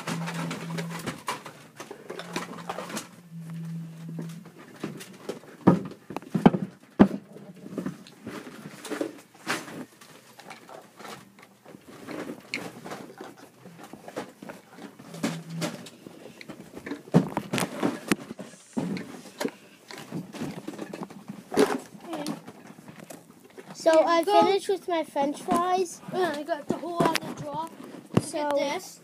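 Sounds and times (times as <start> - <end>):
objects knocking and clicking: 0.0 - 24.0
rustling of objects: 0.0 - 29.0.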